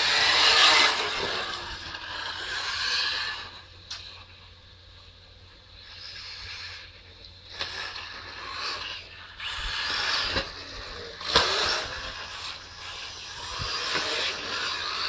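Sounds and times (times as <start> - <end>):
remote control car motor: 0.0 - 4.3, 5.8 - 15.0.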